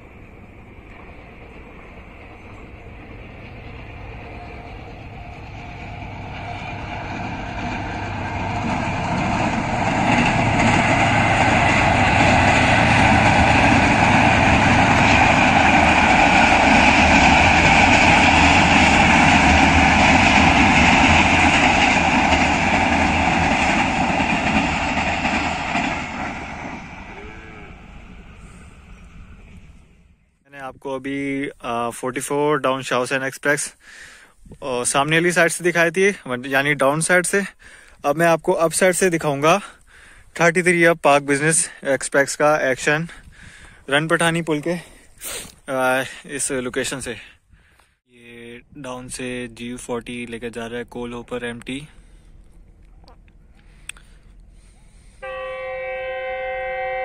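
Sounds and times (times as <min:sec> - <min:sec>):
train rumbling over a bridge: 0:00.0 - 0:57.0.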